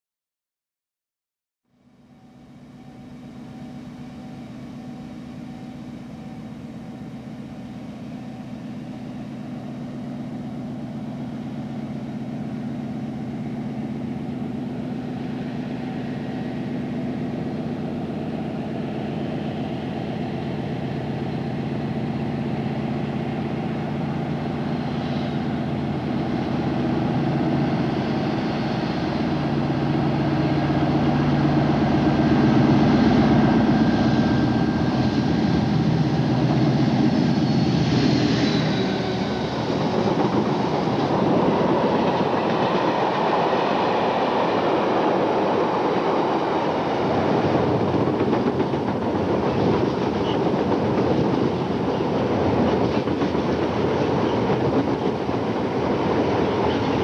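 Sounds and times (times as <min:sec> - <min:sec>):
diesel locomotive engine drone: 0:01.6 - 0:57.0.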